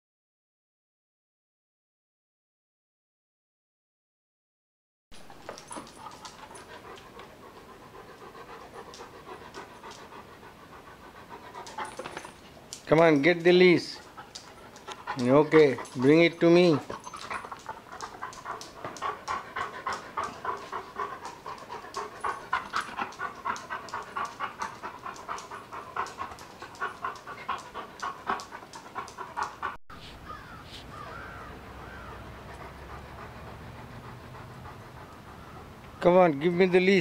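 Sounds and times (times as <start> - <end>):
dog panting: 5.2 - 37.0.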